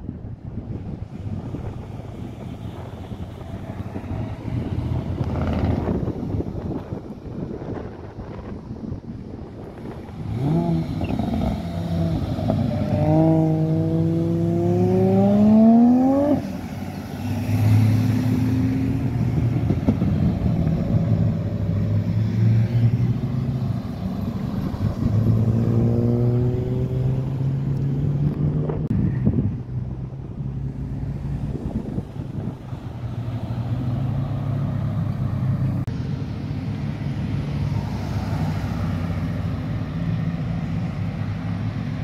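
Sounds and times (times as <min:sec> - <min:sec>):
cars accelerating past: 0:01.1 - 0:07.0, 0:09.6 - 0:42.0.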